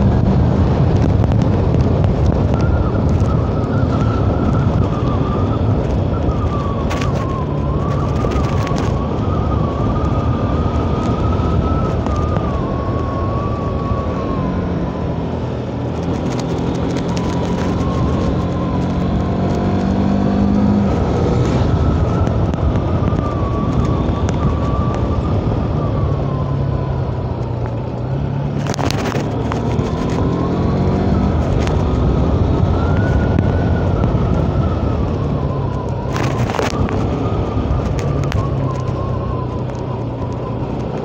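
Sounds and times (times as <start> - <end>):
motorcycle engine running: 0.0 - 41.0
wind and road noise: 0.0 - 41.0.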